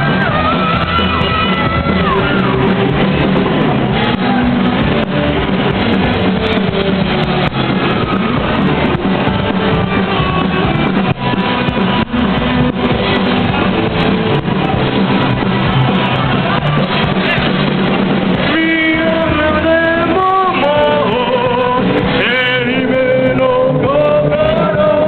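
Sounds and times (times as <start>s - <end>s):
bass guitar: 0.0s - 25.0s
drum kit: 0.0s - 25.0s
electric guitars: 0.0s - 25.0s.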